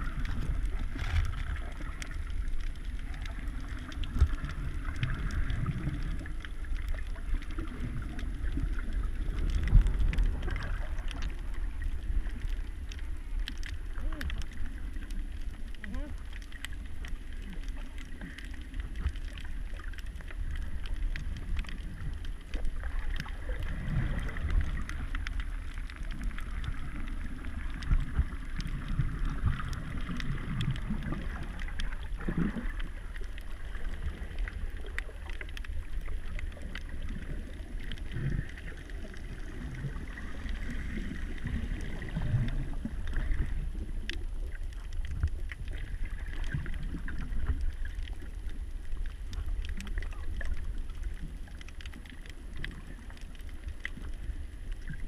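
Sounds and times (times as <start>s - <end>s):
crackling clicks underwater: 0.0s - 55.0s
low underwater rumble: 0.0s - 55.0s
water surges: 0.0s - 55.0s.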